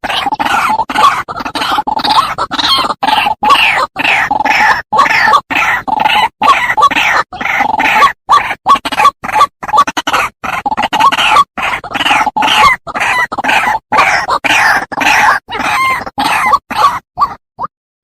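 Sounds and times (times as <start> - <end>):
bird harsh croaking calls: 0.0 - 17.4.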